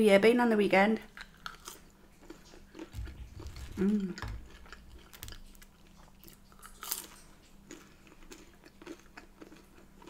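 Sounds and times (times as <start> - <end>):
chewing chips: 1.1 - 10.0.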